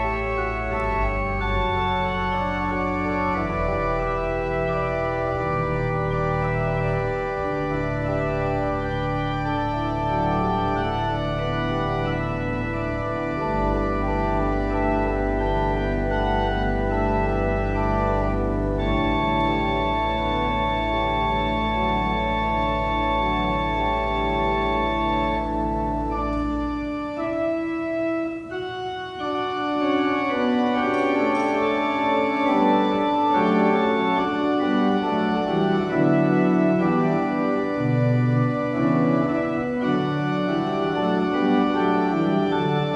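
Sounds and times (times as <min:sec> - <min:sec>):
deep organ bass notes: 0:00.0 - 0:42.9
organ chords: 0:00.0 - 0:42.9.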